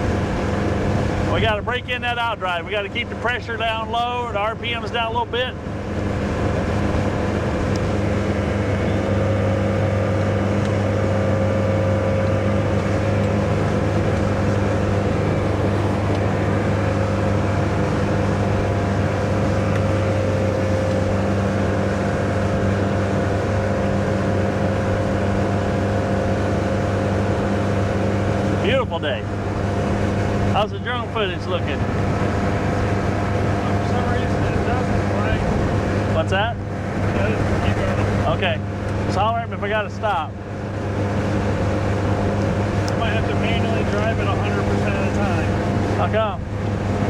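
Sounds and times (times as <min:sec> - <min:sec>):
boat engine running steadily: 0:00.0 - 0:47.0
water and wind rush: 0:00.0 - 0:47.0.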